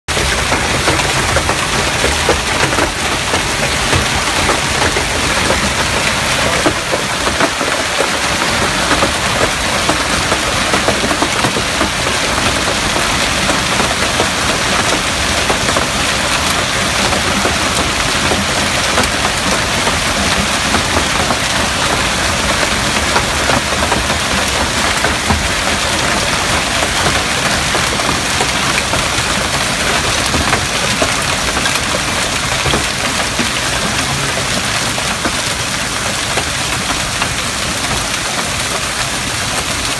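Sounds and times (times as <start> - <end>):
hailstones pelting ground and cars: 0.1 - 39.9.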